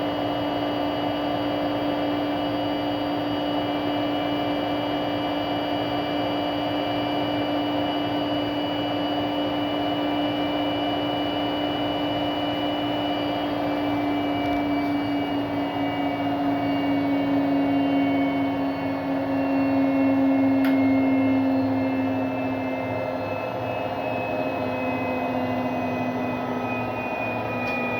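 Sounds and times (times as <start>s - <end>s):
washing machine motor whining: 0.0s - 27.9s.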